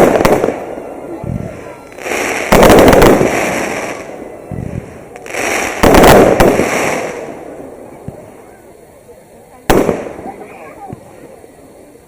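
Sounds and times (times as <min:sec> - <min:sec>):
firework bangs and crackling: 0:00.0 - 0:12.0.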